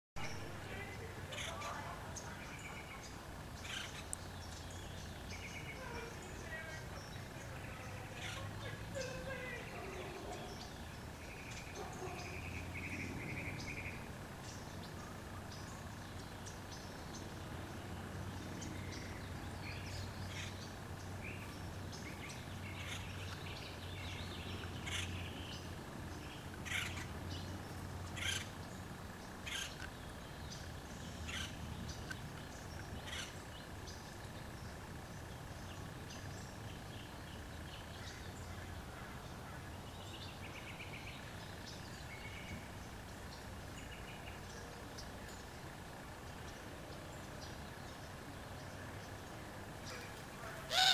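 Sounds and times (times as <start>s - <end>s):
low background hum: 0.2s - 50.9s.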